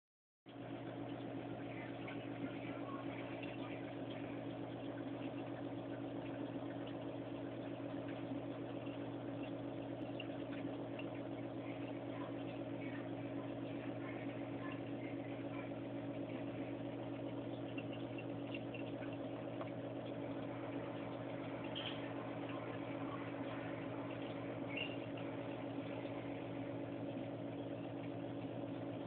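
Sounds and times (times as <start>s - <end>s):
aquarium pumps humming: 0.5s - 29.0s
faint crackles: 0.5s - 29.0s.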